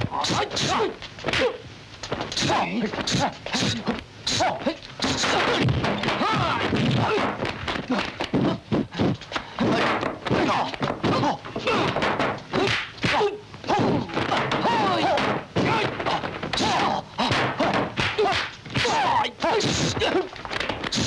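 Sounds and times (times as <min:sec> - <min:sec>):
fighters yelling: 0:00.0 - 0:01.6, 0:02.4 - 0:08.2, 0:09.6 - 0:20.3
punch and block thuds: 0:00.2 - 0:21.0.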